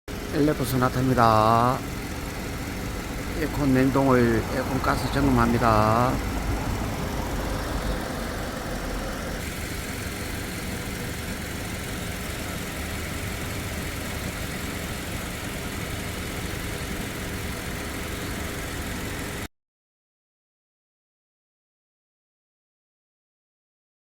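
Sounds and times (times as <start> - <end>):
car engine idling: 0.1 - 19.5.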